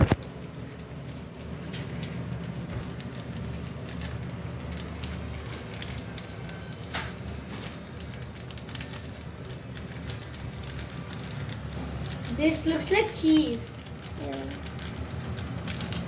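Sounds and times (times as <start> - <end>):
plastic food packets crinkling: 0.0 - 16.0.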